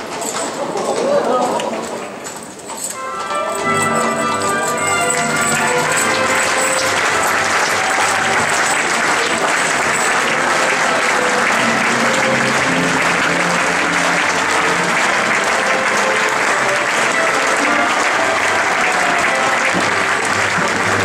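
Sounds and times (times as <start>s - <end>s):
orchestra playing: 2.8s - 21.0s
audience applauding: 2.9s - 21.0s.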